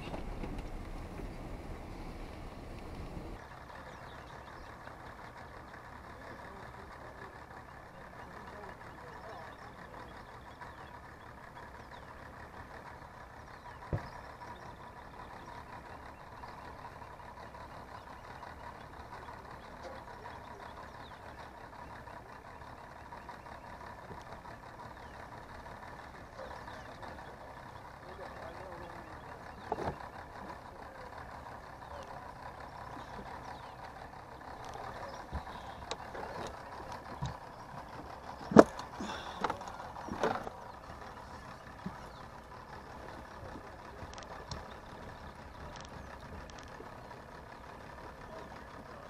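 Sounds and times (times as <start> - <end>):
low engine rumble: 0.0 - 49.0.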